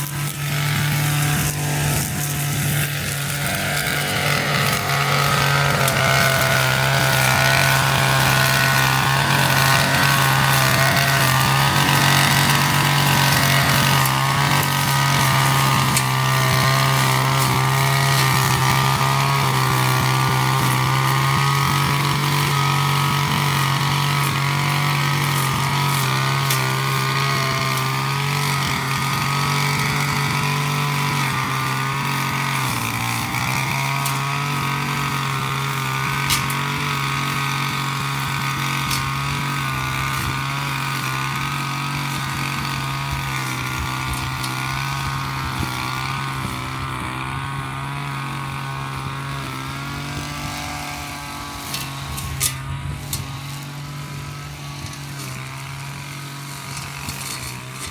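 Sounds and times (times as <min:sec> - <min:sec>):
brush cutter engine running: 0:00.0 - 0:57.9.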